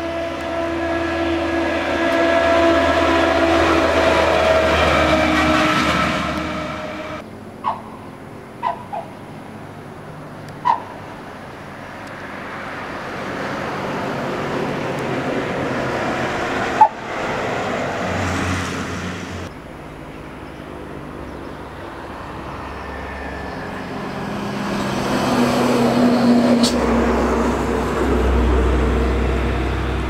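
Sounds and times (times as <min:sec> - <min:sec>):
bus passing by: 0:00.0 - 0:30.0
vehicle approaching: 0:00.0 - 0:30.0.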